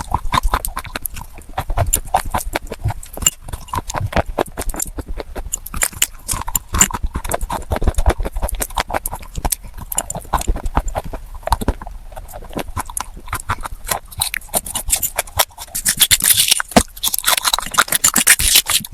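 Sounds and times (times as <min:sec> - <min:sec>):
crunching and chewing clay: 0:00.0 - 0:18.9.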